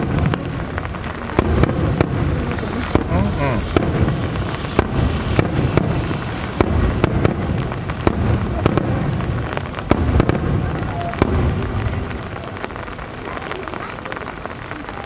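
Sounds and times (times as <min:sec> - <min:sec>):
deep rumbling of fireworks: 0:00.0 - 0:15.0
fireworks cracking: 0:00.0 - 0:15.0.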